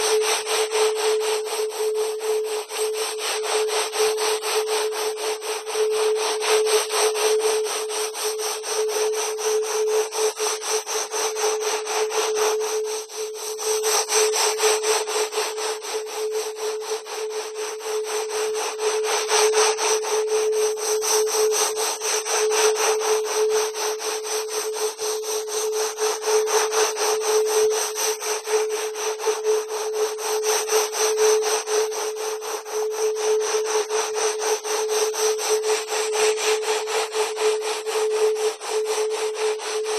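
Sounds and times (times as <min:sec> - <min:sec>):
rapid pulsing rasping hiss: 0:00.0 - 0:39.9.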